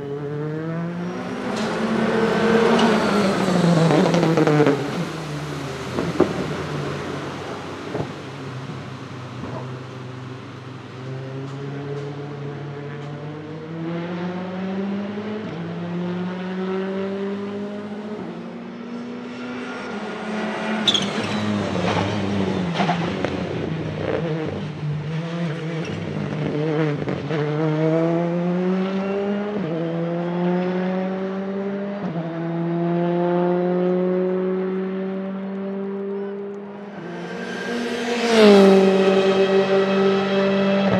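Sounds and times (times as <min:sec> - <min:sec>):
rally car engine accelerating: 0:00.0 - 0:40.9.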